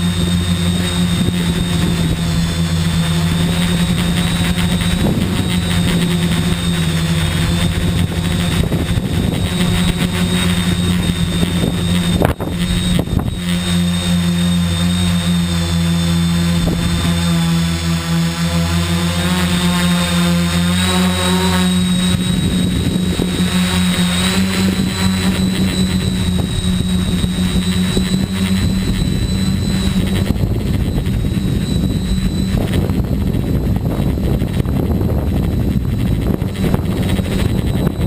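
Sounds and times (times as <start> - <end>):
drone motors and propellers buzzing: 0.0 - 38.0.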